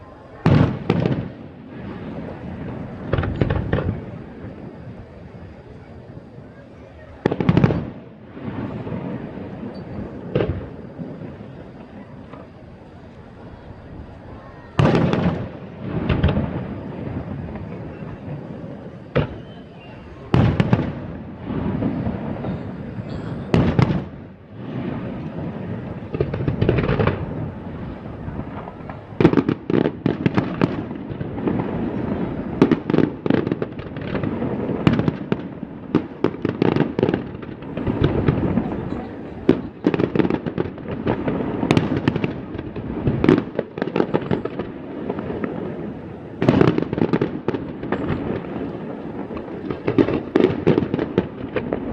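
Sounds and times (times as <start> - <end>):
firework shells bursting: 0.4 - 6.3, 7.1 - 51.9.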